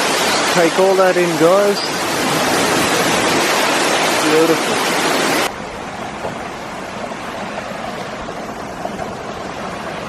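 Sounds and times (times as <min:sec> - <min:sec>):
distant waterfall rushing: 0:00.0 - 0:10.0.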